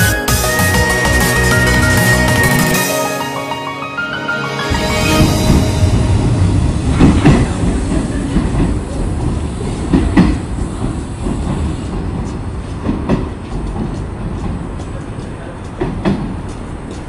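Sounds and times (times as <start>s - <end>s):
electric train low rumble: 0.0s - 17.0s.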